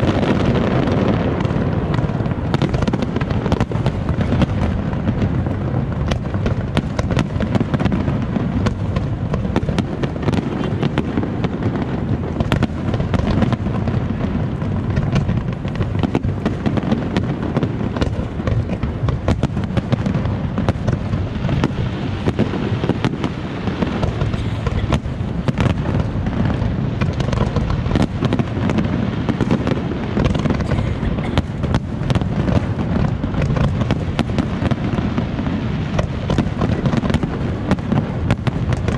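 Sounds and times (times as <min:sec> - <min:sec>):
dense crackling: 0:00.0 - 0:38.9.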